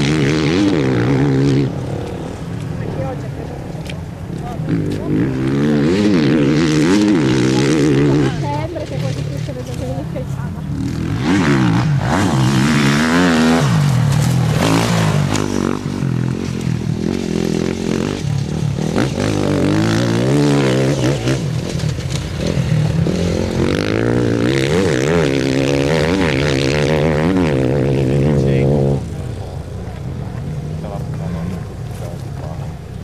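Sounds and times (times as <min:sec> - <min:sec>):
motorcycle engines revving past: 0:00.0 - 0:33.0.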